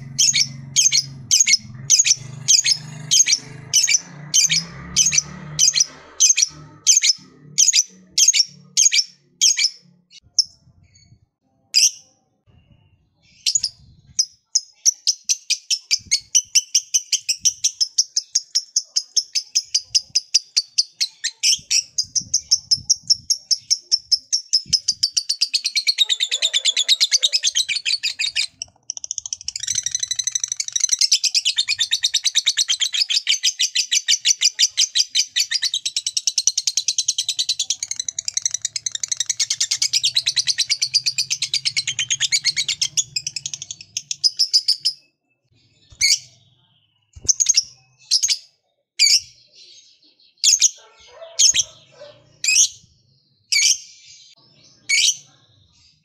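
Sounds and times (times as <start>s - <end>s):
lovebird chattering song: 0.0s - 11.1s, 13.3s - 45.0s, 47.2s - 49.4s, 50.4s - 52.9s.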